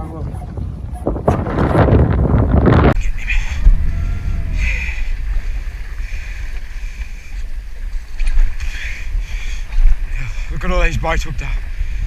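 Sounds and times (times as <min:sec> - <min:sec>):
boat noise: 0:00.0 - 0:12.0
wind buffeting microphone: 0:00.0 - 0:12.0.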